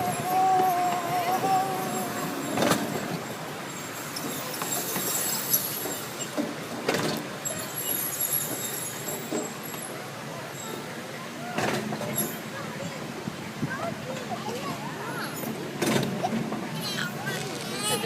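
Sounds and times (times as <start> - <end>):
miniature train rattling on track: 0.0 - 18.0.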